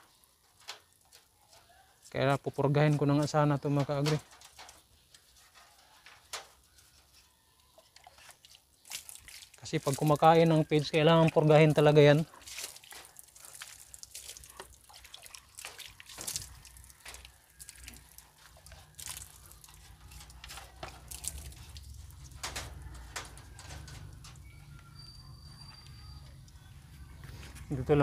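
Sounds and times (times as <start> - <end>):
rabbits chewing and shifting: 0.0 - 28.0.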